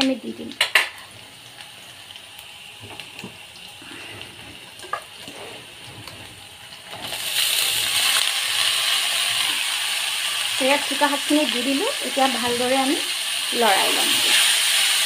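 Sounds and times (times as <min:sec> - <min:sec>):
oil sizzling in a pan: 0:00.0 - 0:15.0.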